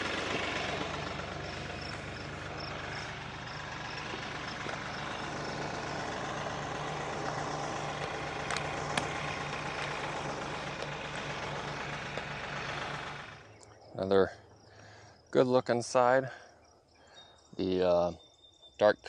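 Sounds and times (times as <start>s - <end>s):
tractor engine idling: 0.0s - 17.3s.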